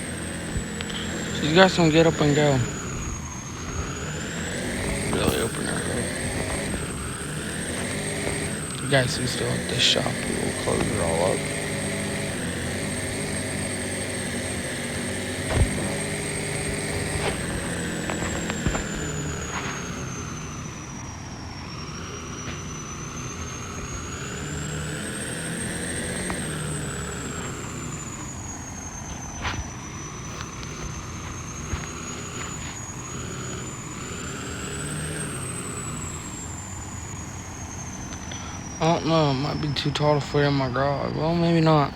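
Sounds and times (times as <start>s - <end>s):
thin high whine: 0.0s - 41.9s
truck engine drone: 0.0s - 41.9s.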